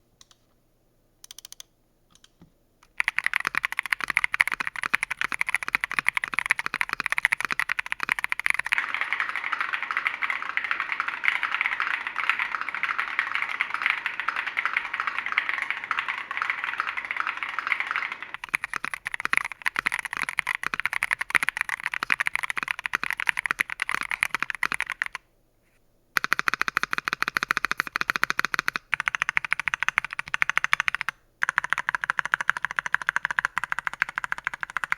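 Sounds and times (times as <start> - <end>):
mechanical keyboard typing: 1.2 - 25.2, 26.2 - 34.9.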